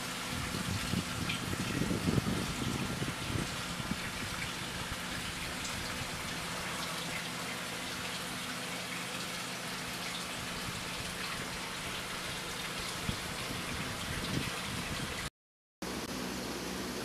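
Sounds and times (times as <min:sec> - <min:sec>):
running water rushing: 0:00.0 - 0:15.3.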